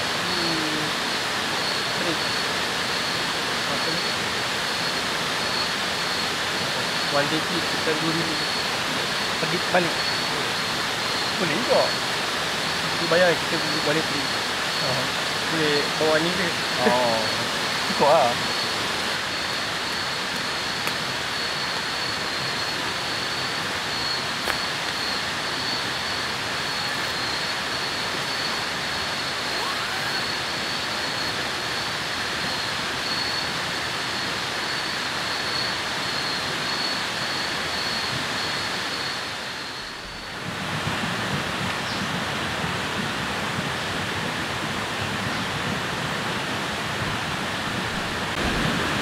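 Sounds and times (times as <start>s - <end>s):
high insect drone: 0.0s - 49.0s
rushing water: 0.0s - 49.0s.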